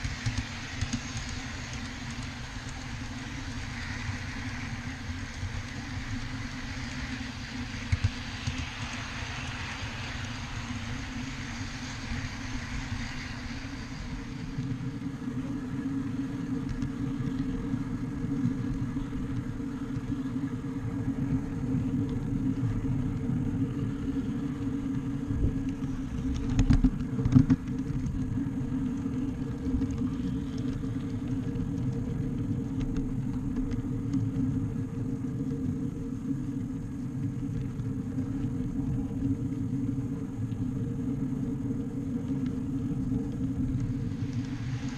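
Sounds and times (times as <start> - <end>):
steady hum: 0.0 - 44.9
wheels rumbling on rail: 0.0 - 44.9.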